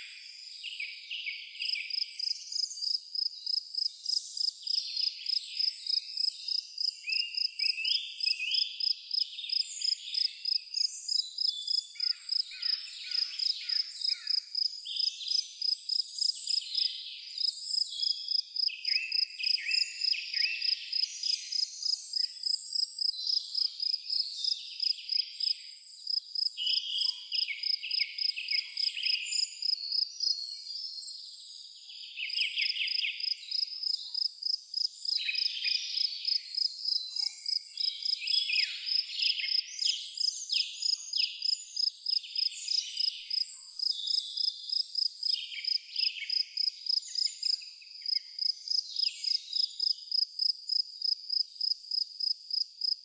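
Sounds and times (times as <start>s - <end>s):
birds calling and singing: 0.0s - 34.3s, 35.0s - 50.0s
cricket chirping: 1.6s - 30.3s, 32.3s - 53.0s.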